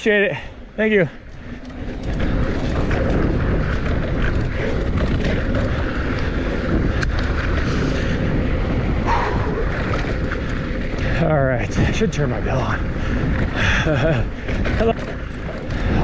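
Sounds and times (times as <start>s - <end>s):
bike rattling: 0.0s - 16.0s
wind buffeting microphone: 0.2s - 16.0s.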